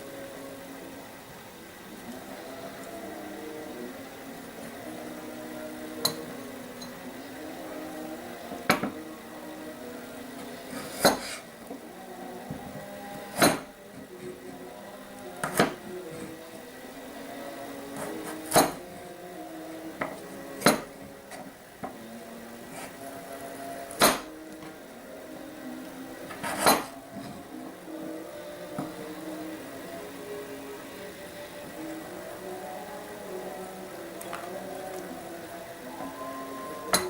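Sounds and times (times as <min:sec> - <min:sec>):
soft background music: 0:00.0 - 0:37.0.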